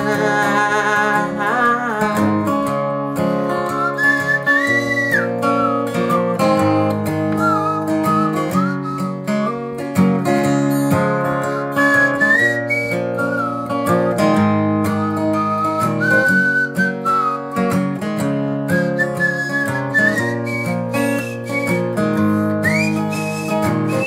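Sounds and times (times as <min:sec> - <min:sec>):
acoustic guitar playing: 0:00.0 - 0:24.0
whistled melody: 0:02.4 - 0:24.0.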